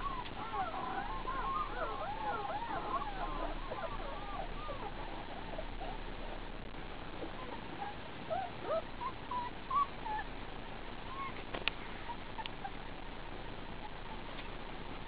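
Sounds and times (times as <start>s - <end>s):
puppies whimpering and squeaking: 0.0s - 6.4s, 7.2s - 10.4s, 11.1s - 14.6s
steady hiss: 0.0s - 15.0s.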